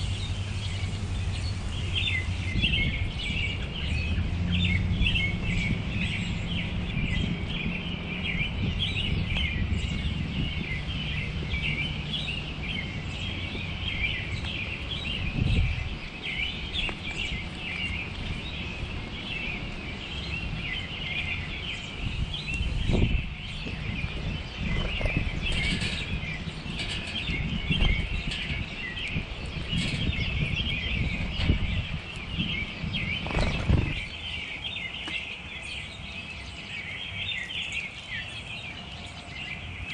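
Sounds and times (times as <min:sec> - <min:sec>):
low steady rumble: 0:00.0 - 0:34.5
songbirds chirping: 0:00.0 - 0:39.9.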